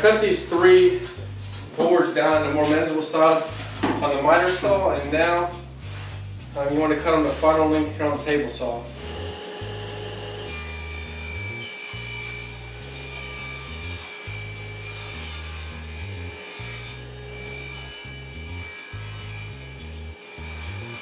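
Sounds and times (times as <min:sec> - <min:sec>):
music bass line: 0:00.0 - 0:21.0
table saw cutting wood: 0:00.0 - 0:21.0.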